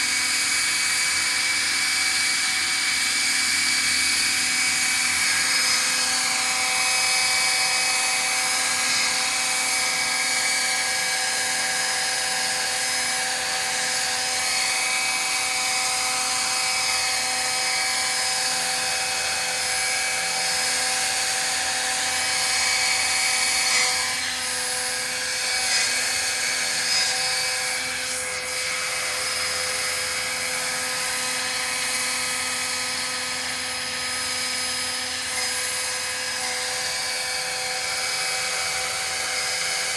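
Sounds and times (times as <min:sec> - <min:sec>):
model helicopter motor whine: 0:00.0 - 0:39.9.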